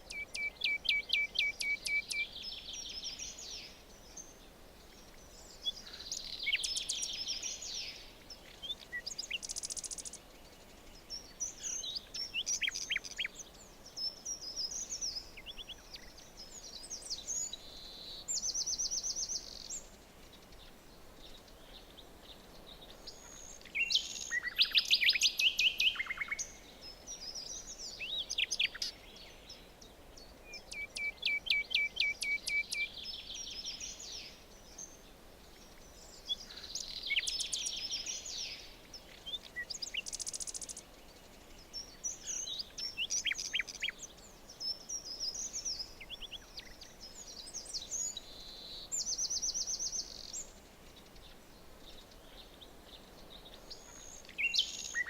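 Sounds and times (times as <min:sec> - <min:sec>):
faint background hiss: 0:00.0 - 0:55.0
songbirds chirping and trilling: 0:00.0 - 0:55.0.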